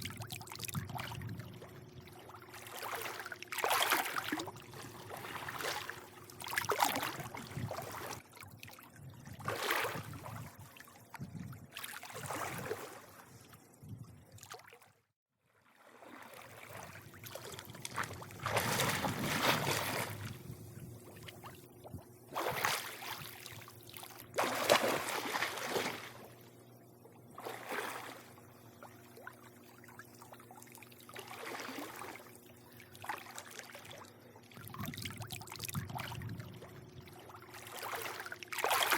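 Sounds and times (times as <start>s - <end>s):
faint steady hum: 0.0s - 14.5s, 15.8s - 38.9s
pool water lapping and splashing: 0.0s - 38.9s.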